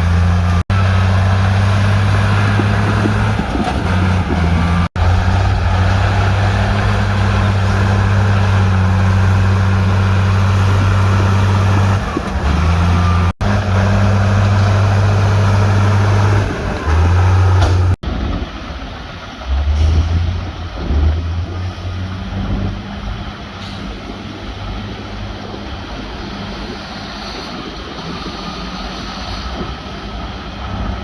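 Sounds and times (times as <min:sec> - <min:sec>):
heavy diesel machinery engine: 0:00.0 - 0:31.0.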